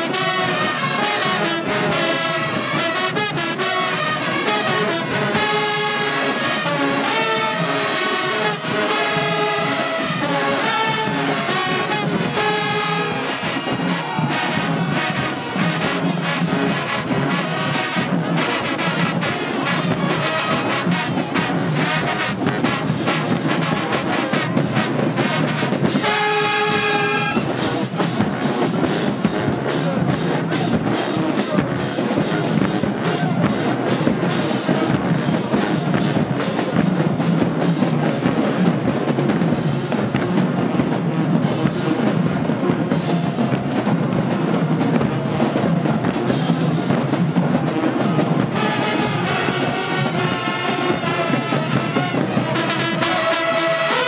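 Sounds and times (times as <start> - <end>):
drumline drumming: 0.0 - 54.0
marching band brass: 0.0 - 54.0.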